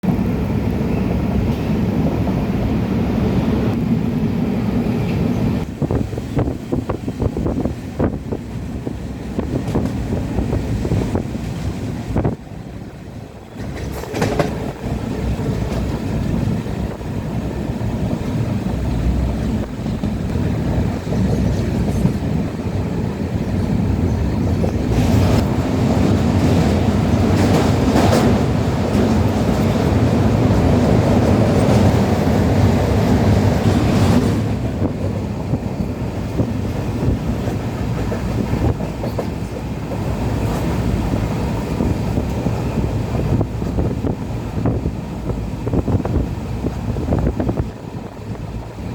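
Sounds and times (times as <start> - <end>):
train rumbling with wheel clatter: 0.0 - 48.9.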